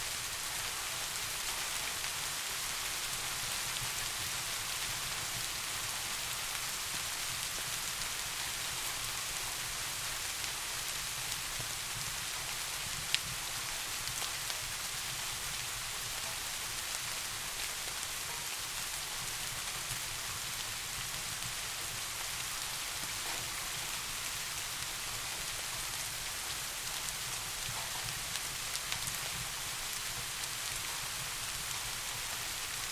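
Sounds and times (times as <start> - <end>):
steady rain hiss: 0.0 - 32.9.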